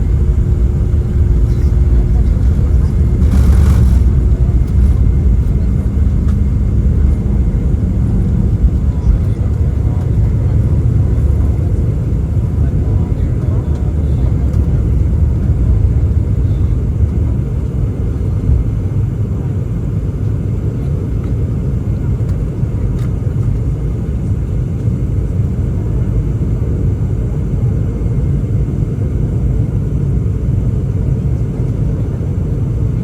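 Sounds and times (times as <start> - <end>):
jet engines and airflow rumble: 0.0 - 33.0.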